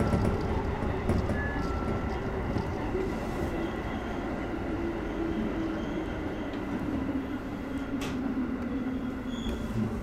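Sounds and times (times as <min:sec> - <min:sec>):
electric train rumble and hum: 0:00.0 - 0:10.0.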